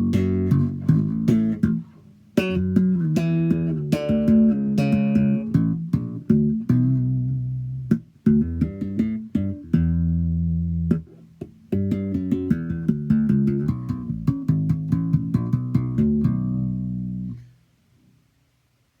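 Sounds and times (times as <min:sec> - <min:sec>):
electric bass notes: 0:00.0 - 0:17.6.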